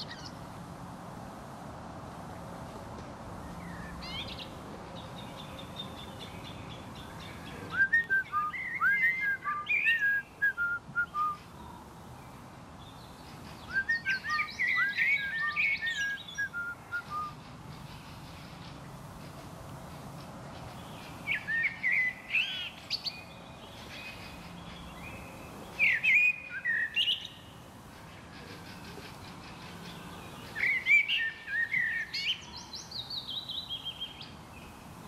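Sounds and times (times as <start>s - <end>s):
steady background hiss: 0.0s - 35.0s
songbird whistling song: 3.4s - 11.8s, 12.8s - 18.8s, 20.7s - 34.8s.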